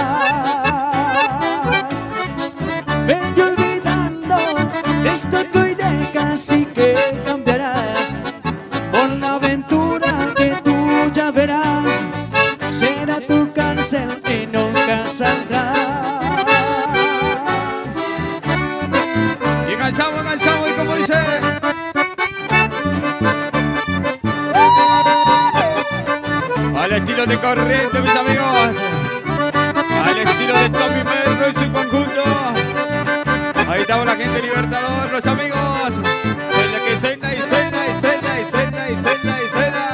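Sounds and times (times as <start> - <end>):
folk accordion music: 0.0 - 39.9.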